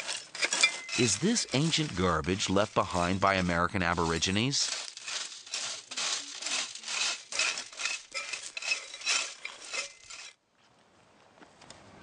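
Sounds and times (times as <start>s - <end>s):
mussel shells clinking and scraping: 0.0s - 10.4s.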